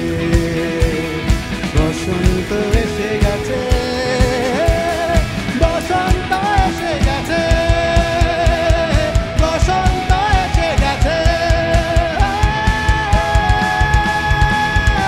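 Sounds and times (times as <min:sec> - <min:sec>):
rock band music: 0:00.0 - 0:15.0.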